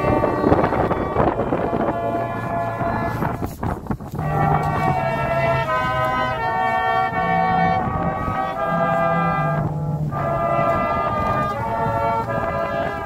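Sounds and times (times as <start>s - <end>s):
outdoor brass band playing: 0.0s - 13.0s.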